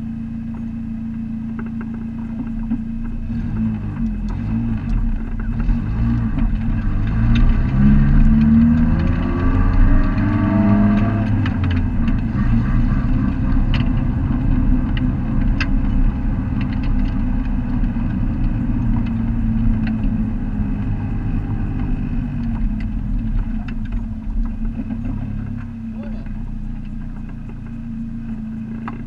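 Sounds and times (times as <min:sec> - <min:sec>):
ticks and rattles: 0:00.5 - 0:29.0
race car engine revving: 0:01.5 - 0:29.0.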